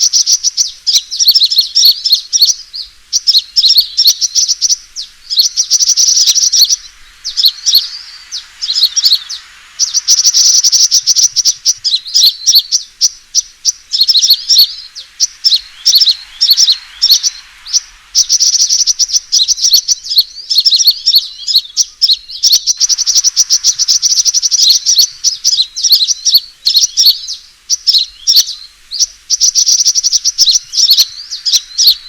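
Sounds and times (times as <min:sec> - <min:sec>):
bird twittering chirps: 0:00.0 - 0:32.0.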